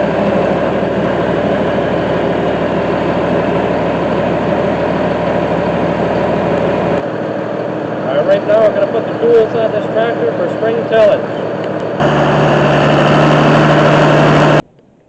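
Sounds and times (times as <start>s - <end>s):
diesel tractor engine idling: 0.0s - 14.6s.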